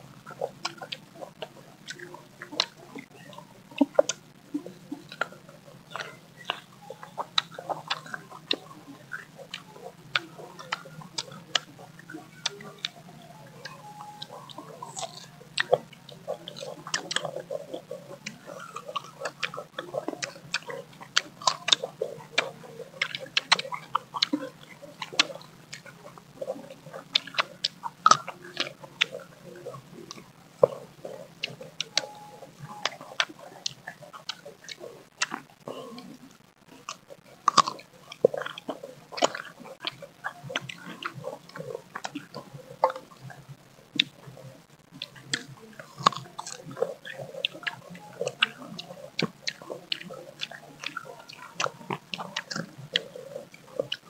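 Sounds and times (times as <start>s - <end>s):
mouth clicks: 0.0s - 54.0s
people chewing crunchy fruit: 0.0s - 54.0s.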